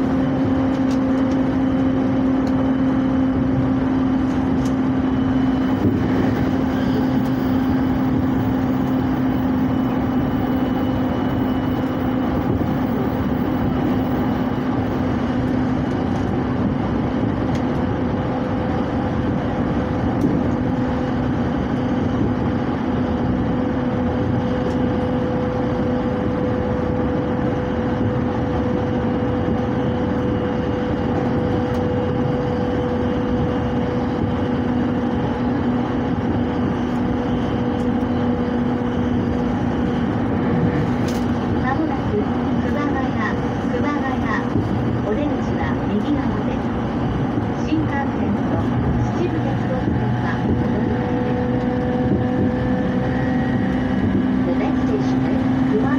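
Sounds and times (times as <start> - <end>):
low hum: 0.0 - 55.9
train wheels rumbling on rail: 0.0 - 55.9.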